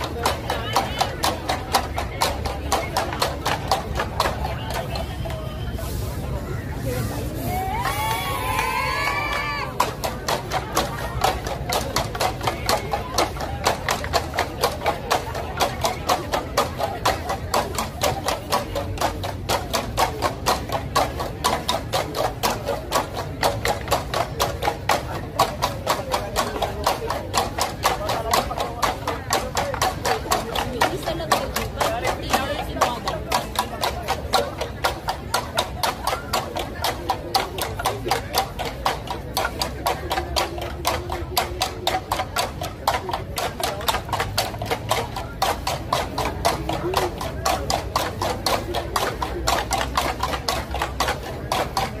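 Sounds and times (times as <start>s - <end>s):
bamboo percussion knocking: 0.0s - 5.6s, 7.5s - 52.0s.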